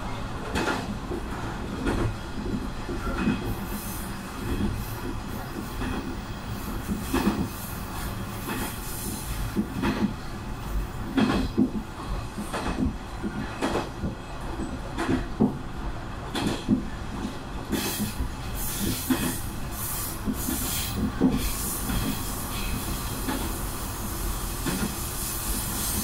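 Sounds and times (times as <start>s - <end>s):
railcar rumbling: 0.0s - 26.0s.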